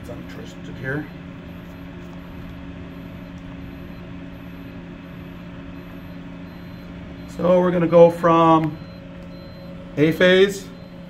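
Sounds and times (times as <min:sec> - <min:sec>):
transformer electrical hum: 0:00.0 - 0:11.0.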